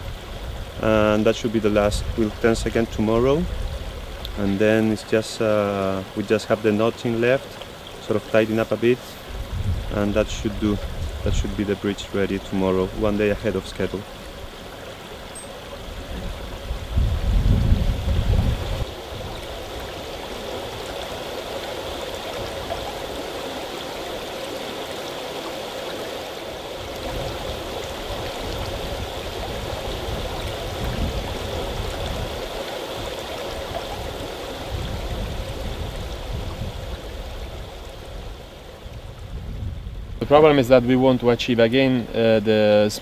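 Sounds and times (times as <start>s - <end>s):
river flowing over stones: 0.0s - 39.3s.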